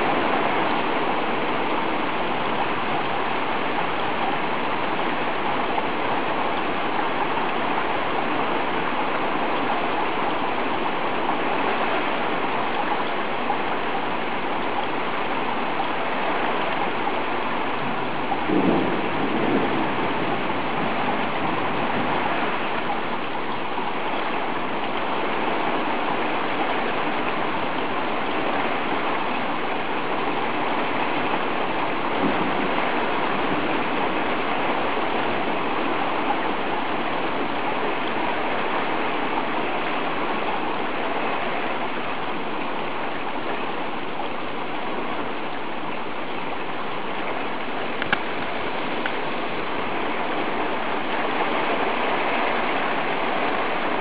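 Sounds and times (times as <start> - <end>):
heavy rain pouring on street: 0.0 - 54.0.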